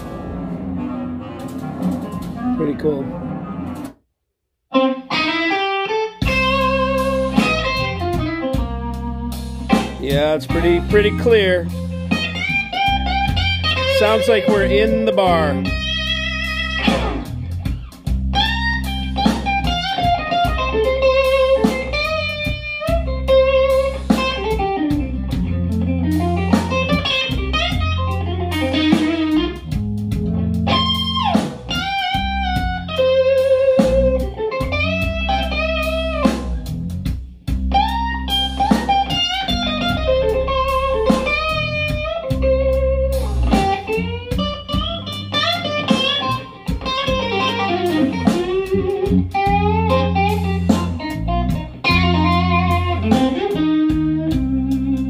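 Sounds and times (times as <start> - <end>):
blues electric guitar: 0.0 - 3.9, 4.7 - 55.0
bass line: 6.2 - 55.0.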